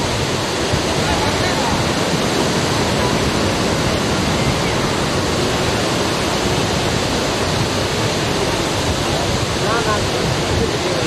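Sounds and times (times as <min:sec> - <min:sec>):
sea surf rushing: 0:00.0 - 0:11.0.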